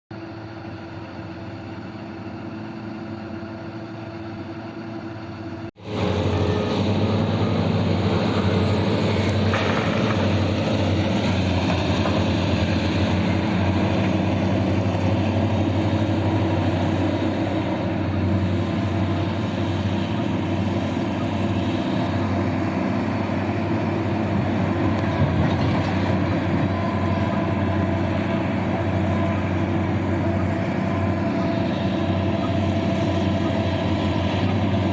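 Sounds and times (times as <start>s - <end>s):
heavy diesel truck engine: 0.2s - 34.9s.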